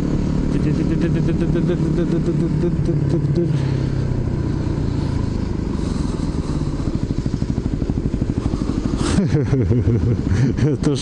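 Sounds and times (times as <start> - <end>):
dirt bike engine: 0.0 - 11.0.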